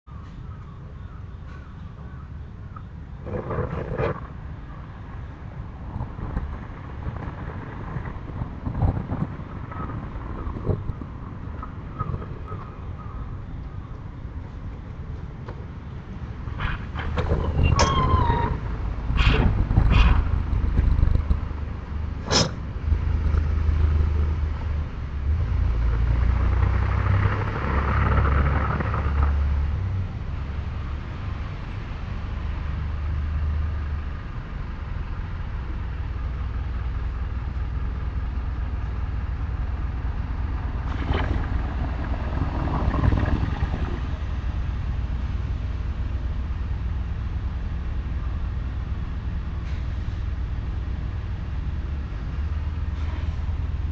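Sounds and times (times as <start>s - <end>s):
low rumble: 2.1s - 53.9s.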